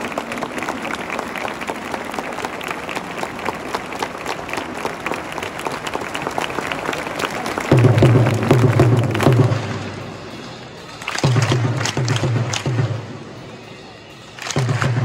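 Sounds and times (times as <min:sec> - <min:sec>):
crowd clapping: 0:00.0 - 0:13.5, 0:14.2 - 0:15.0.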